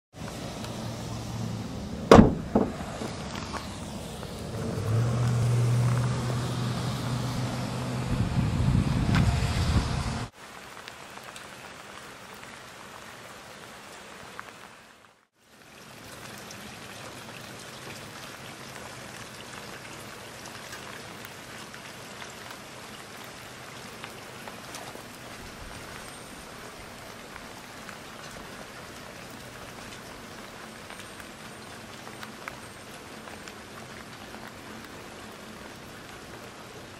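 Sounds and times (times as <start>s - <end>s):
light rain hissing: 0.2s - 36.9s.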